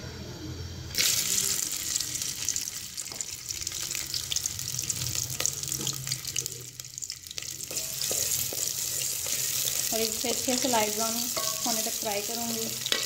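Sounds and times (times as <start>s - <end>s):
onions sizzling in hot oil: 0.9s - 13.0s.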